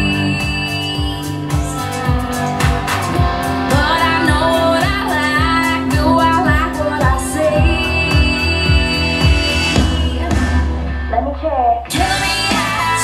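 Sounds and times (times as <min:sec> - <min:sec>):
song with sung vocal over beat: 0:00.0 - 0:13.0.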